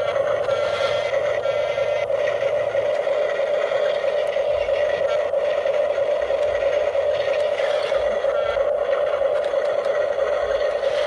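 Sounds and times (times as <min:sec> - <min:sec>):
small electric motor whine: 0:00.0 - 0:11.0.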